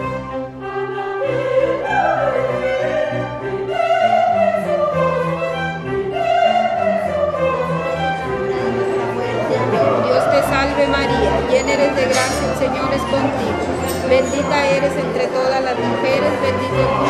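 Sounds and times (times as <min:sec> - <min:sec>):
orchestral strings: 0:00.0 - 0:17.0
operatic voice singing: 0:00.7 - 0:17.0.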